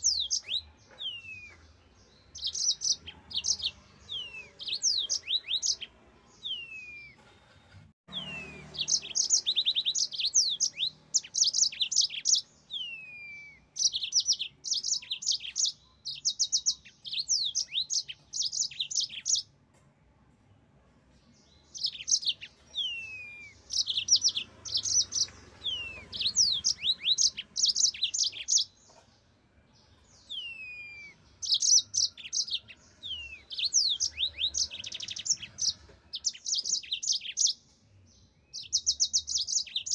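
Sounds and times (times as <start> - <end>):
canary singing trills: 0.0 - 7.2, 8.1 - 19.5, 21.4 - 39.9.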